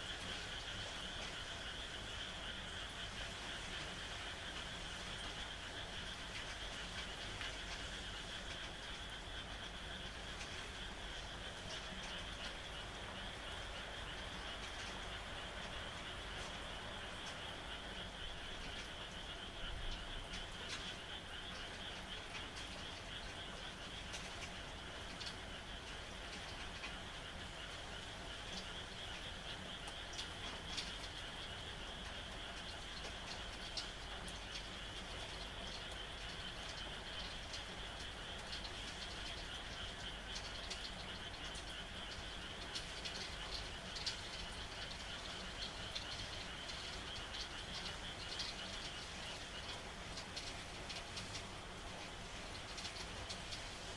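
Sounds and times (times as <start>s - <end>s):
frogs calling: 0.0s - 53.9s
rain falling: 0.0s - 53.9s.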